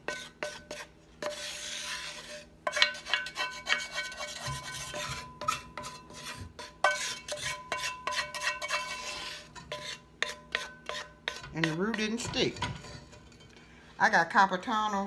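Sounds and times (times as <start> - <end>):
wooden spoon scraping skillet: 0.0 - 13.9.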